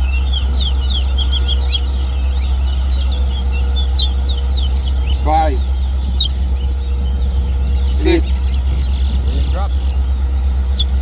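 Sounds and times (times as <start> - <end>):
finch chirping song: 0.0 - 11.0
low rumble: 0.0 - 11.0.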